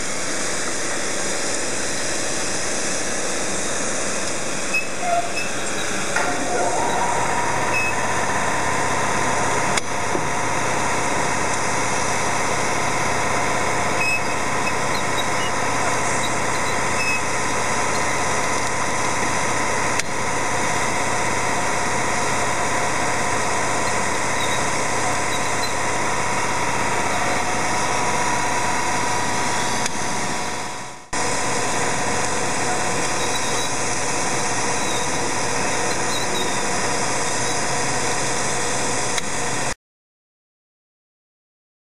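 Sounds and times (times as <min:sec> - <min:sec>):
packaging machine humming: 0:00.0 - 0:39.7.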